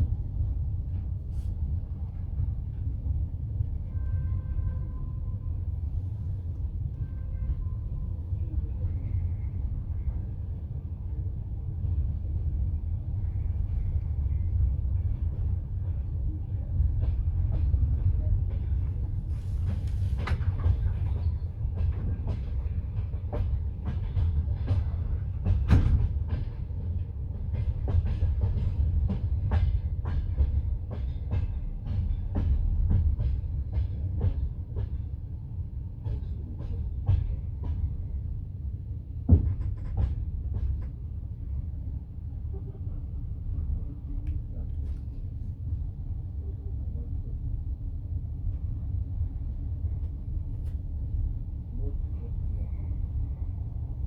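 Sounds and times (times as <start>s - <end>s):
train carriage rumble: 0.0s - 54.0s.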